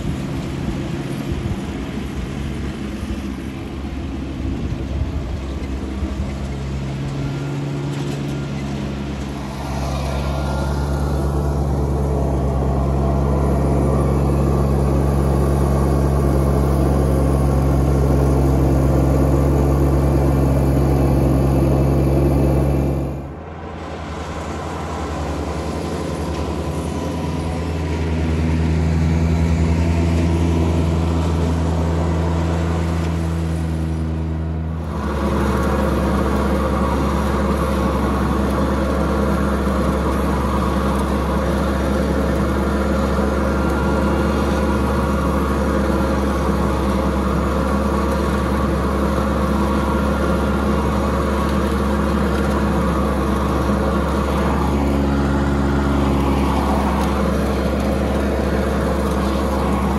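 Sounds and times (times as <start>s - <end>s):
mower diesel engine running: 0.0s - 59.9s.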